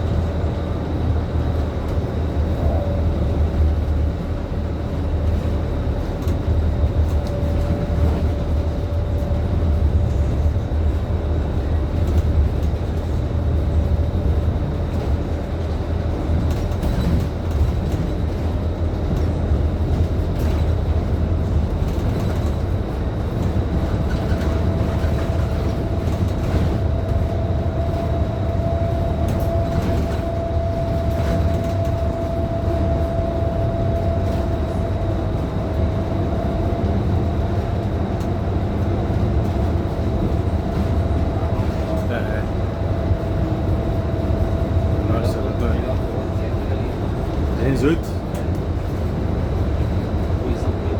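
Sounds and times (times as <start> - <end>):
bus engine and road rumble: 0.0 - 50.9
body rattles and clicks: 5.0 - 50.9.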